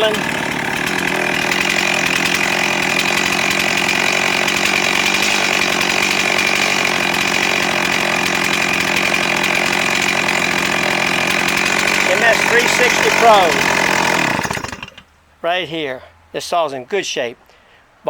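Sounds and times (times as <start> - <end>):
chainsaw engine idling: 0.0 - 15.1.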